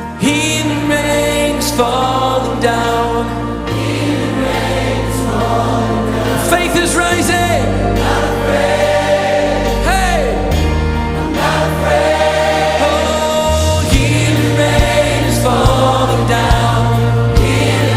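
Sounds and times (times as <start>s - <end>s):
band playing: 0.0s - 17.9s
choir singing held chords: 0.0s - 17.9s.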